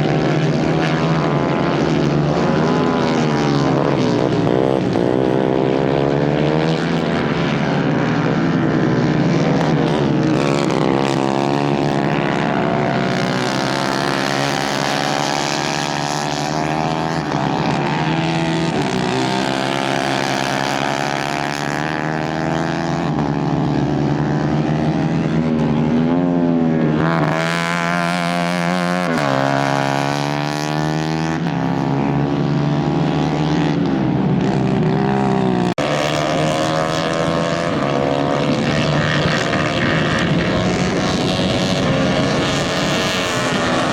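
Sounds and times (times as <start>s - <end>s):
racing kart engines revving: 0.0s - 43.9s.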